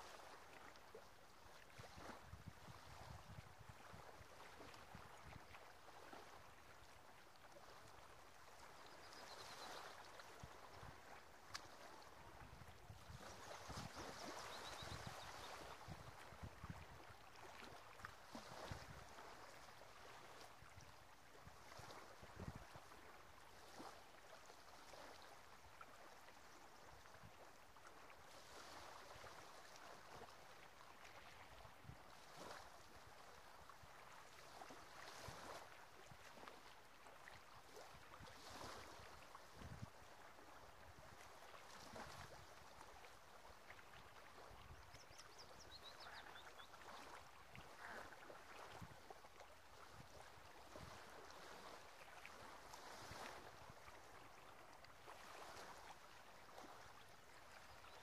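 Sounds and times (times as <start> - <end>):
small waves lapping on shore: 0.0 - 58.0.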